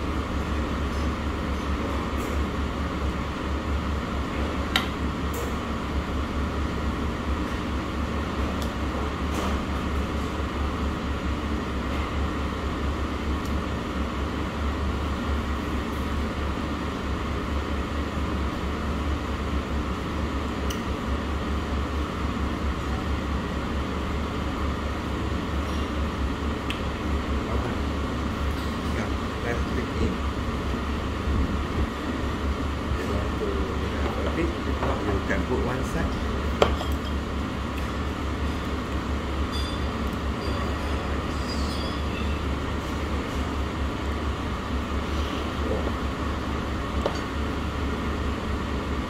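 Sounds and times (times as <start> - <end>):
air conditioning hum: 0.0 - 49.0.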